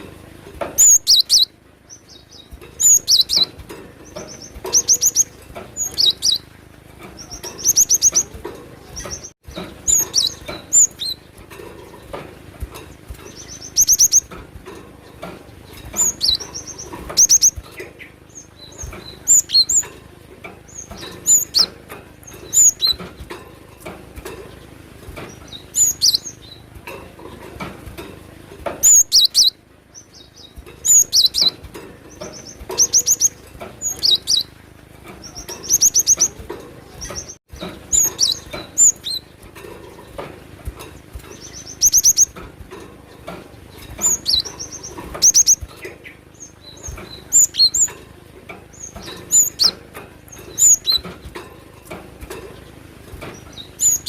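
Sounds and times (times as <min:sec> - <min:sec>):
small bird chirping song: 0:00.0 - 0:54.0.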